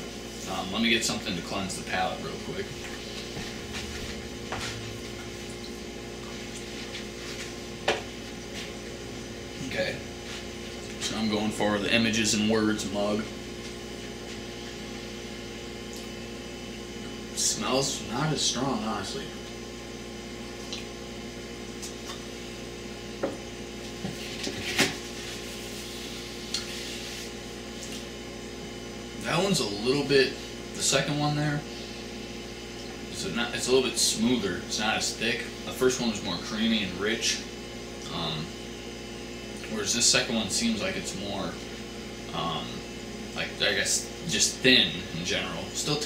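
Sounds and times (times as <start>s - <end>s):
room hum: 0.0s - 46.0s.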